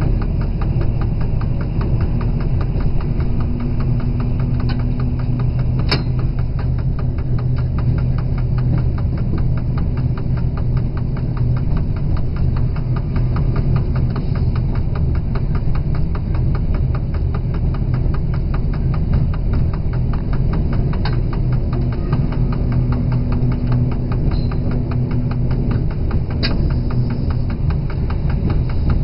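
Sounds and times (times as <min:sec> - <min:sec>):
diesel locomotive engine throbbing: 0:00.0 - 0:29.0
fast even ticking: 0:00.0 - 0:29.0.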